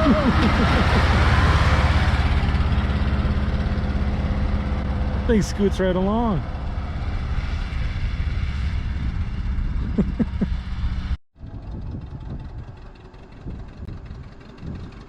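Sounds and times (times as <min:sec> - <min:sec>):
tractor engine running: 0:00.0 - 0:15.0
uneven engine sound: 0:00.0 - 0:15.0.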